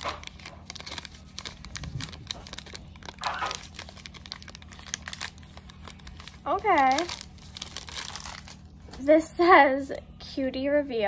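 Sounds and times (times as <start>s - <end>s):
plastic packet crinkling: 0.0s - 9.1s.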